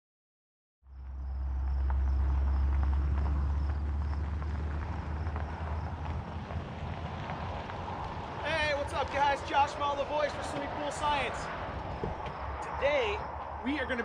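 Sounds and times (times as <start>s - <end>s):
pickup truck driving past: 0.9s - 14.0s.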